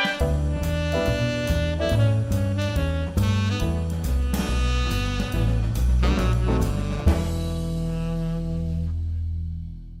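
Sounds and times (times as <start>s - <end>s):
background jazz music: 0.0s - 10.0s.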